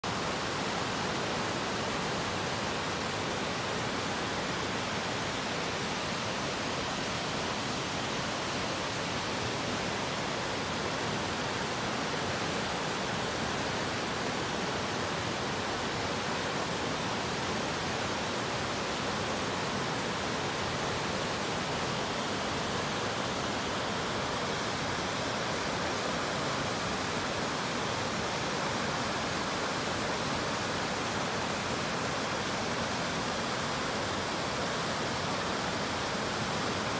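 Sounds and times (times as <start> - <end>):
river water rushing over rocks: 0.0 - 36.9.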